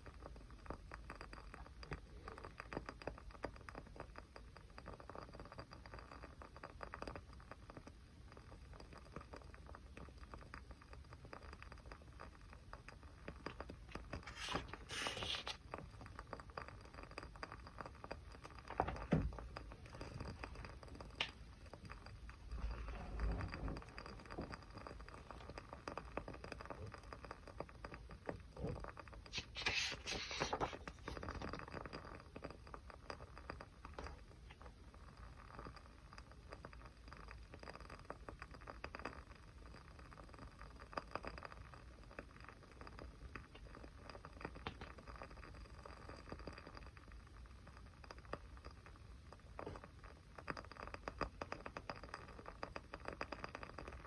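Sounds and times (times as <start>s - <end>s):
small fire crackling: 0.0s - 54.0s.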